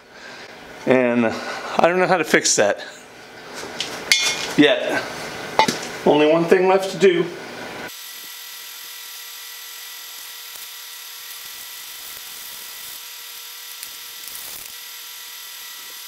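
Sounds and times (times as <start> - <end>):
electrical hum with high whine: 0.0 - 16.0.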